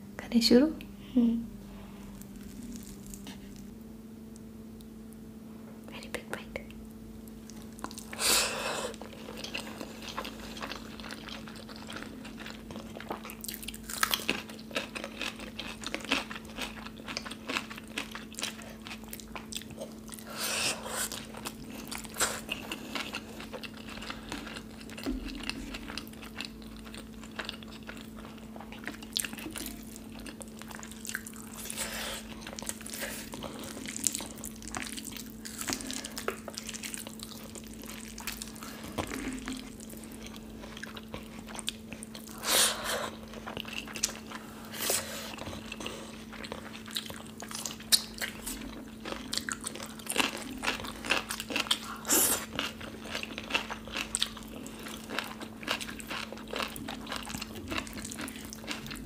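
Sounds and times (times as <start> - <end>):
steady low hum: 0.0 - 59.0
chewing and biting food: 8.9 - 59.0.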